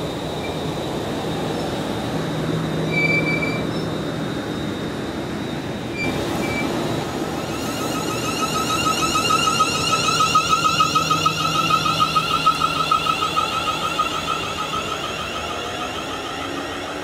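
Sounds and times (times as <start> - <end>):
electric train whine pulsing: 0.0 - 17.0.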